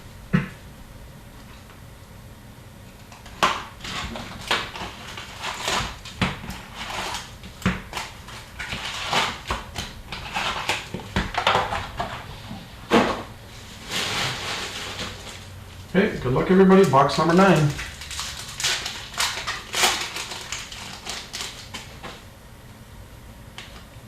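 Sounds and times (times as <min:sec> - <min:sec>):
plastic wrap and cardboard crinkling: 0:03.0 - 0:22.3.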